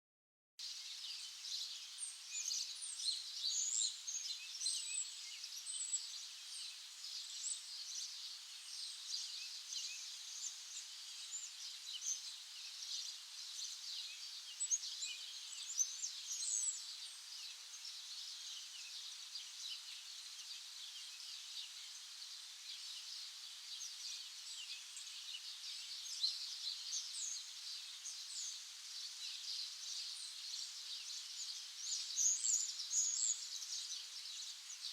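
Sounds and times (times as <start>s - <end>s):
small birds chirping: 0.7s - 34.9s.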